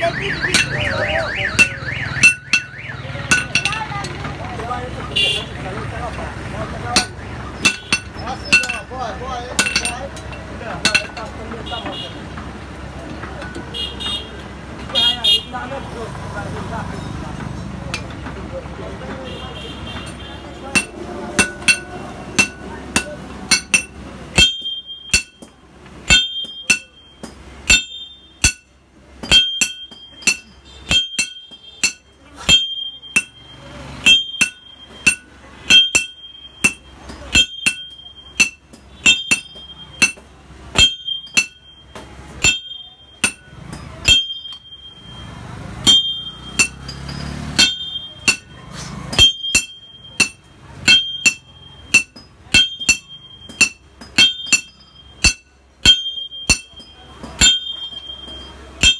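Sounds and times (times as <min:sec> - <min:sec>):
hammer striking steel on anvil: 0:00.1 - 0:04.2, 0:06.8 - 0:11.4, 0:20.0 - 0:58.9.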